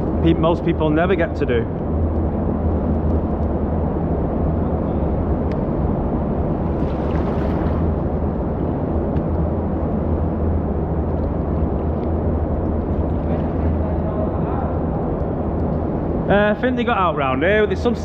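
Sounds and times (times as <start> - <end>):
low rumble in echoing tunnel: 0.0 - 18.0.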